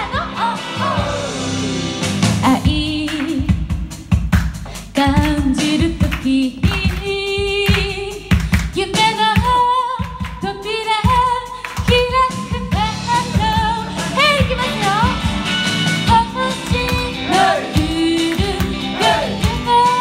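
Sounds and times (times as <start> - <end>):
woman singing pop song: 0.0 - 1.3, 2.4 - 3.9, 4.7 - 15.3, 15.9 - 20.0
music with drum beat: 0.0 - 20.0.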